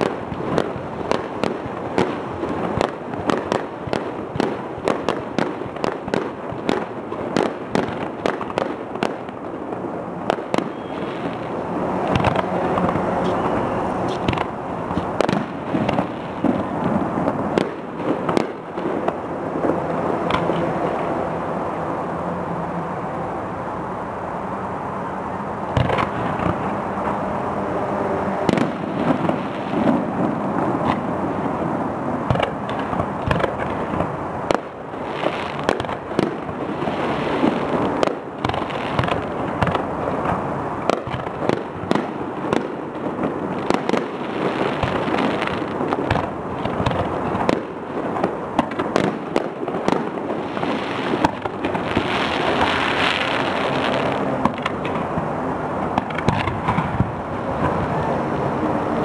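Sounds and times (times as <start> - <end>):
fireworks bangs and crackles: 0.0 - 22.1, 25.6 - 59.0.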